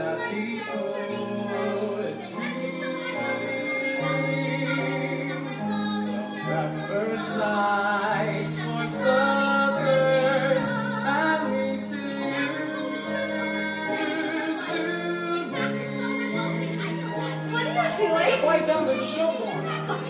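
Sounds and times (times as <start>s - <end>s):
singing with vibrato: 0.0s - 20.0s.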